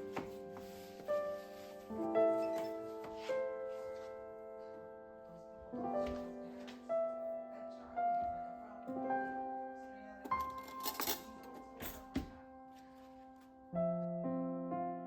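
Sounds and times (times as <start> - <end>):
slow piano chords with melody: 0.0 - 15.0.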